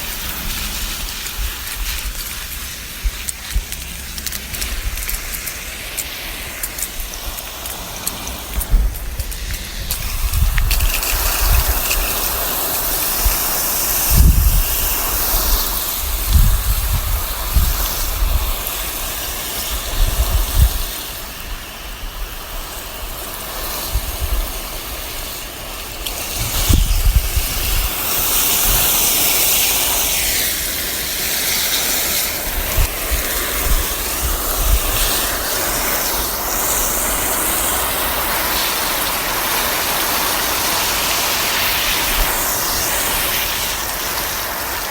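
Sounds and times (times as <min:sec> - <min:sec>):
garden hose spraying water: 0:00.0 - 0:44.9.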